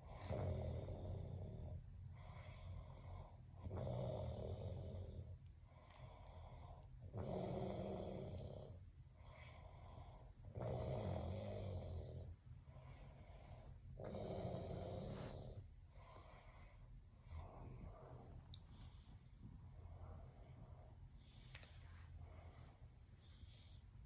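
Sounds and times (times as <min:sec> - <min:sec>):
quiet breathing: 0:00.0 - 0:24.0.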